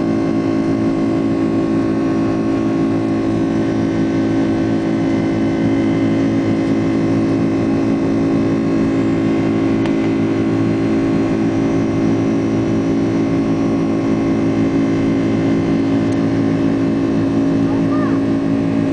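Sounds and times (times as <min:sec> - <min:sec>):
jet engines droning: 0:00.0 - 0:18.9.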